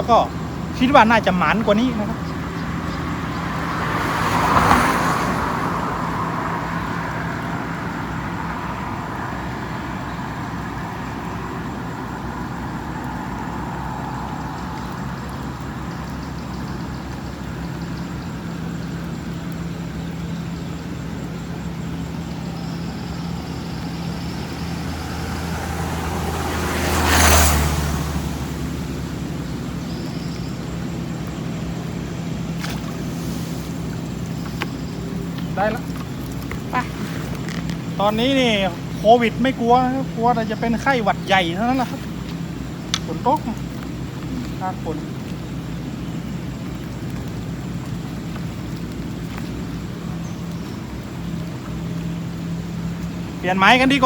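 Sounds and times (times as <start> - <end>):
vehicle engine running: 0.0 - 54.0
vehicle passing close by: 0.0 - 54.0.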